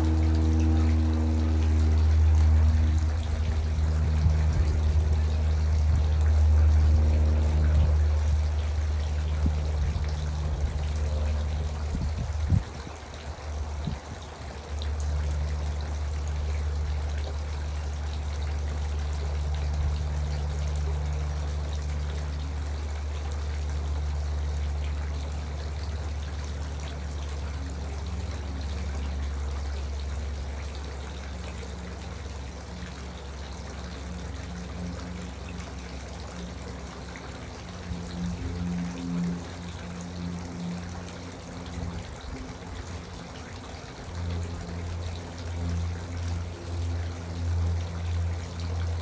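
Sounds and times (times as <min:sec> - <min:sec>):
fountain water trickling: 0:00.0 - 0:49.0
low hum: 0:00.0 - 0:49.0.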